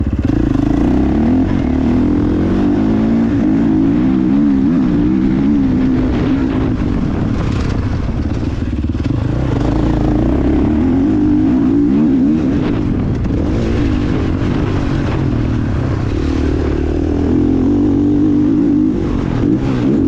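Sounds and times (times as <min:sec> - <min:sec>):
motocross motorcycle engine revving: 0:00.0 - 0:20.0.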